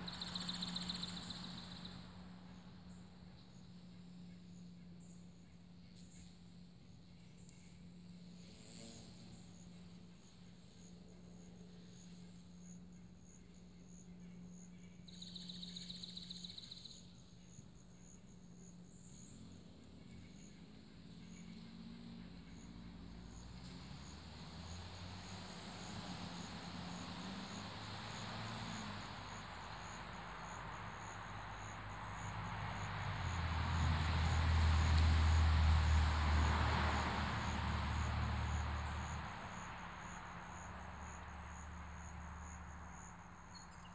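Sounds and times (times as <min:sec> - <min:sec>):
insects chirping: 0:00.0 - 0:08.4, 0:09.1 - 0:43.9.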